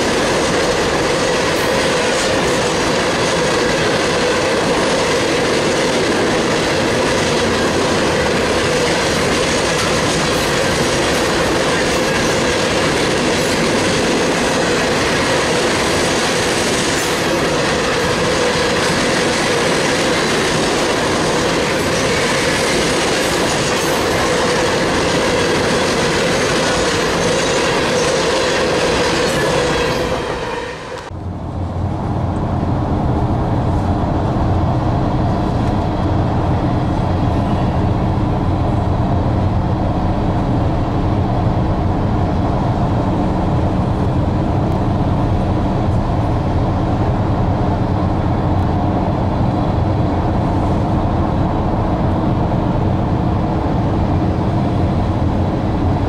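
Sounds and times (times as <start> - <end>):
freight train cars rolling on rails: 0.0 - 56.0.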